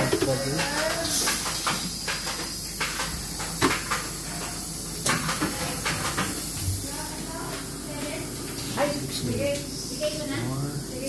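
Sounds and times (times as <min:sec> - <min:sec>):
steam hissing in pipes: 0:00.0 - 0:11.0.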